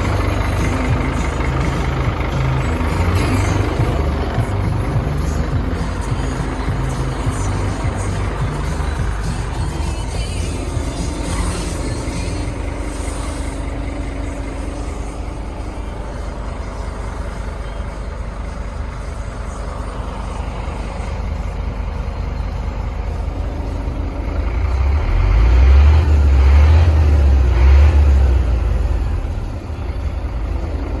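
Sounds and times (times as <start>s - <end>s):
diesel engine running and revving: 0.0s - 31.0s.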